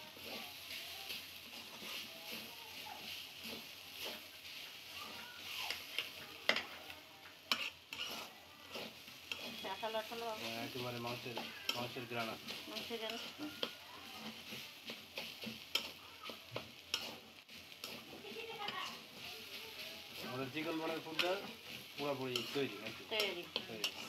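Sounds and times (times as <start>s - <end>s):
onions sizzling in oil: 0.0s - 24.0s
spatula scraping pan: 0.0s - 24.0s.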